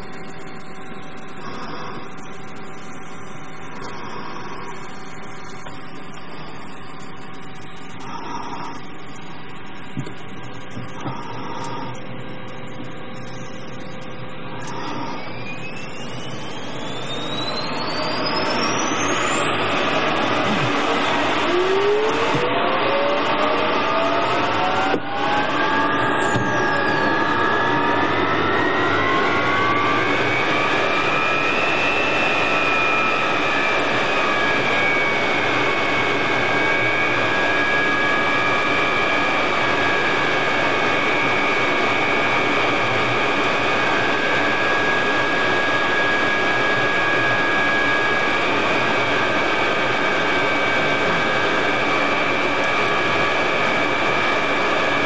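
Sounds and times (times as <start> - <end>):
jet engine whine spooling up: 0.0 - 55.0
very high whine: 0.0 - 55.0.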